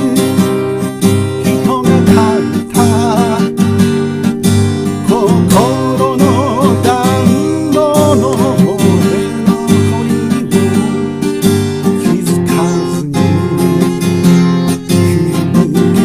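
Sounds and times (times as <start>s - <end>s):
acoustic guitar strumming: 0.0s - 16.0s
wavering melody line: 0.1s - 16.0s.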